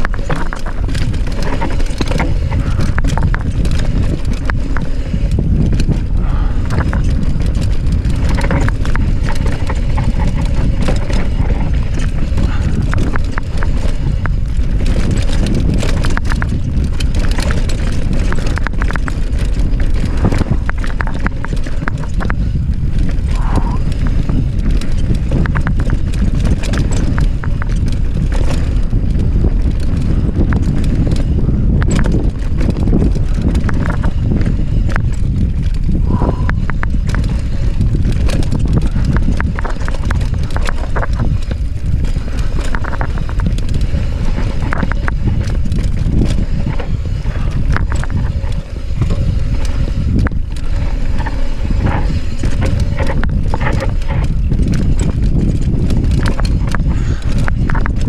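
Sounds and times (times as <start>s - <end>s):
bike chain and frame clattering: 0.0s - 58.0s
tyres rumbling on dirt and rock: 0.0s - 58.0s
wind on microphone: 0.0s - 58.0s.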